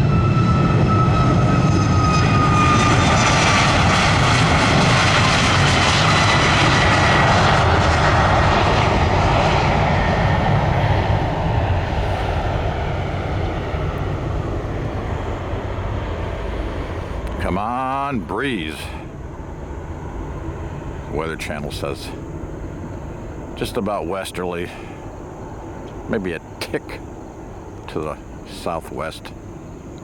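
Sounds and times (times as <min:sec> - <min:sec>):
jet airliner passing overhead: 0:00.0 - 0:30.0
jet engine whine: 0:00.0 - 0:30.0.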